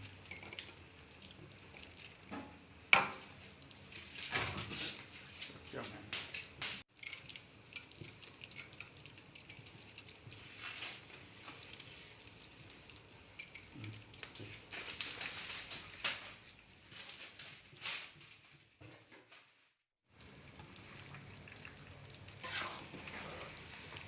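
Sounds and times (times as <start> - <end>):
chicken sizzling in a wok: 0.0 - 16.9, 20.0 - 24.0.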